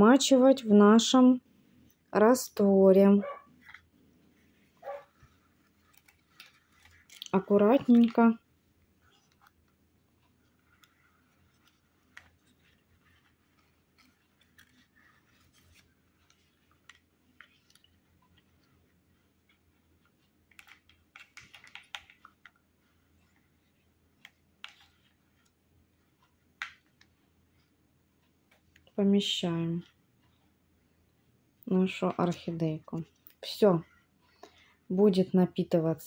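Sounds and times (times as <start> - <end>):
leaves rustling and tapping pot: 3.0 - 27.7, 31.6 - 35.8.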